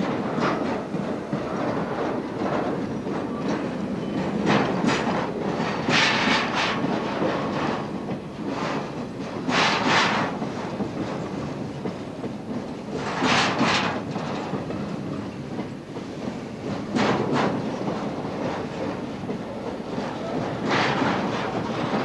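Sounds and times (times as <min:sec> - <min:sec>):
steel wheels rumbling on rail: 0:00.0 - 0:22.0
wheel trucks clickety-clack: 0:00.0 - 0:22.0.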